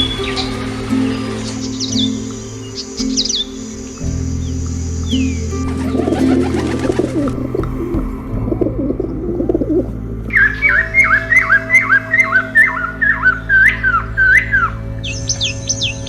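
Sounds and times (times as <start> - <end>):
birds cooing: 0.0 - 14.8.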